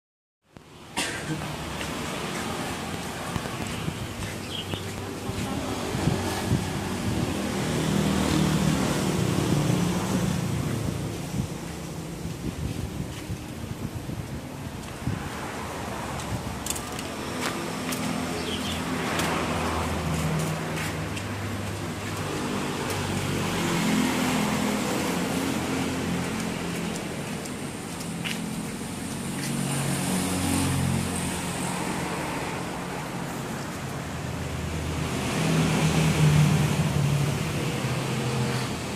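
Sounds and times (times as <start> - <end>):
vehicle engines passing: 0.6 - 38.9.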